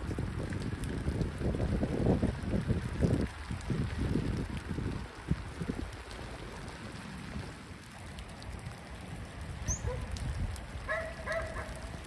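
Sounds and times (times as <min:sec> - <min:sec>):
rain falling on lake water: 0:00.0 - 0:12.0
wind rumble on microphone: 0:00.0 - 0:12.0.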